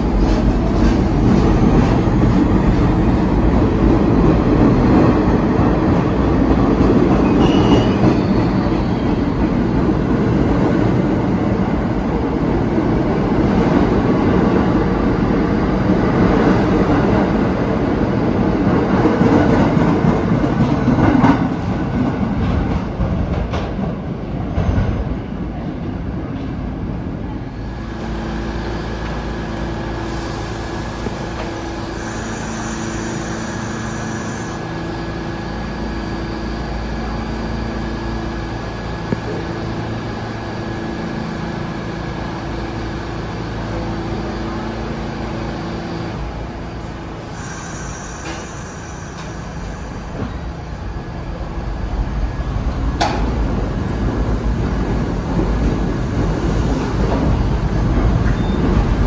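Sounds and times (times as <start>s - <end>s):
subway train rumbling to a stop: 0.0s - 59.0s
train humming at platform: 0.0s - 59.0s.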